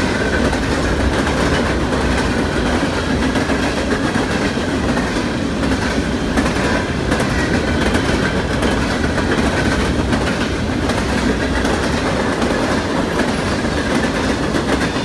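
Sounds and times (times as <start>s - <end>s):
freight train rumbling past: 0.0s - 15.0s
steel wheels clacking over rail joints: 0.0s - 15.0s.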